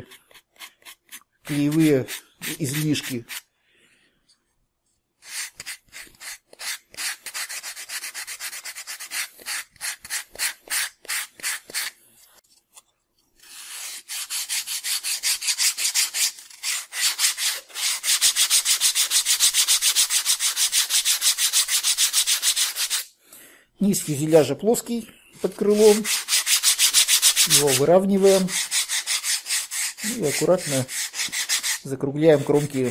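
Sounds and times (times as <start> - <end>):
sandpaper rubbing on foam: 0.0 - 3.4, 5.2 - 12.0, 13.4 - 23.1, 25.4 - 32.9.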